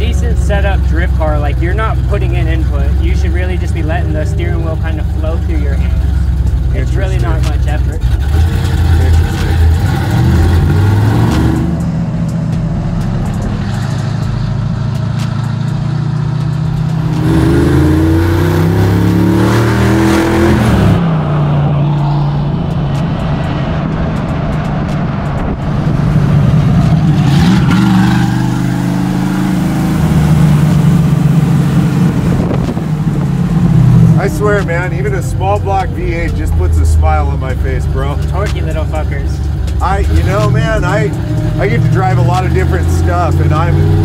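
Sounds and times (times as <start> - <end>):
truck engine accelerating: 0.0 - 44.0.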